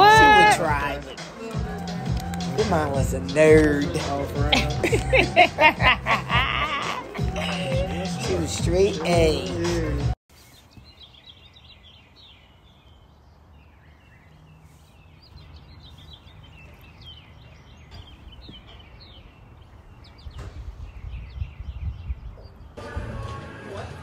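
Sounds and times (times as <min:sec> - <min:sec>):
birds chirping and singing: 0:00.0 - 0:22.8.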